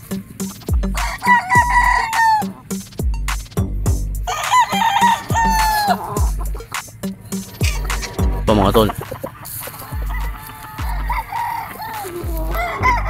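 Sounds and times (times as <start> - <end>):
roosters crowing: 0.0 - 3.0, 4.2 - 13.0
hip-hop music with bass beat: 0.0 - 13.0.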